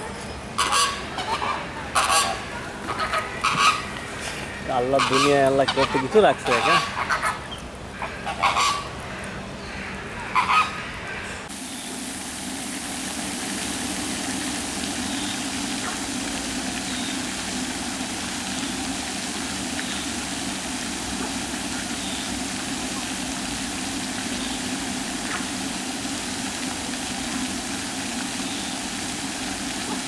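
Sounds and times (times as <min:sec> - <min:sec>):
flamingos honking: 0:00.5 - 0:12.0, 0:13.8 - 0:30.0.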